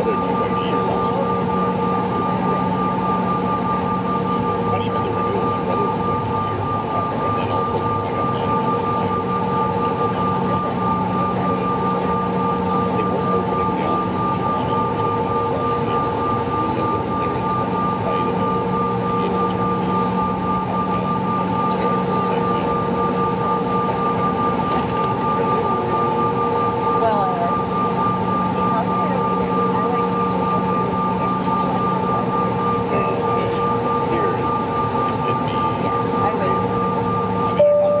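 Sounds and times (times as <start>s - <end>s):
jet engines whining in cabin: 0.0s - 38.0s.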